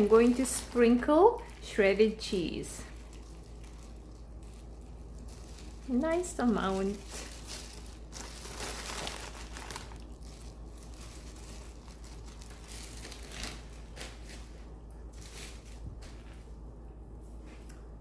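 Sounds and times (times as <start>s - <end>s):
cheese crinkling and rustling: 0.0s - 16.6s.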